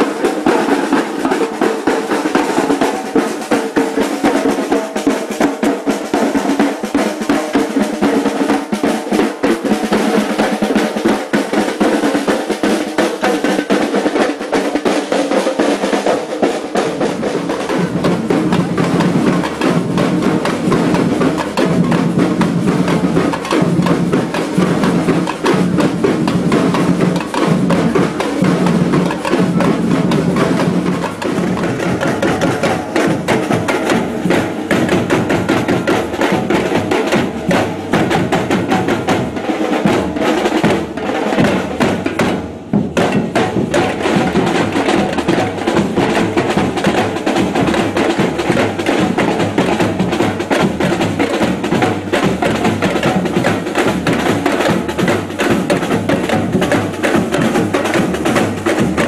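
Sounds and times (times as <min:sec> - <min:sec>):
samba percussion band drumming: 0:00.0 - 0:59.0.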